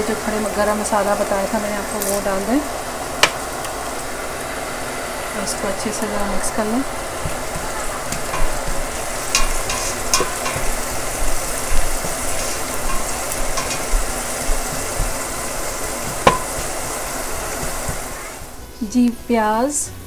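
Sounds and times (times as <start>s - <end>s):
onions and spices sizzling: 0.0s - 20.0s.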